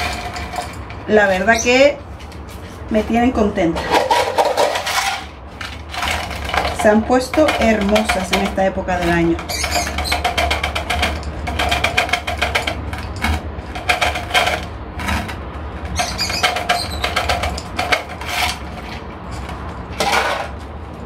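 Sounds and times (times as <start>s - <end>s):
potting mix clicking and scraping: 0.0s - 21.0s.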